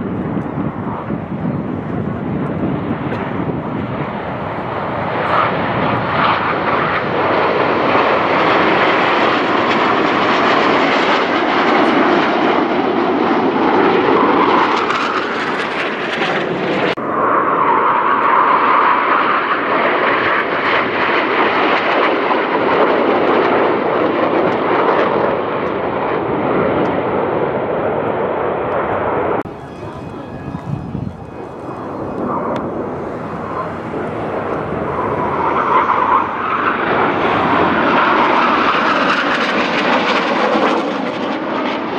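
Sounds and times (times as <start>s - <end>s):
jet roar: 0.0s - 41.9s.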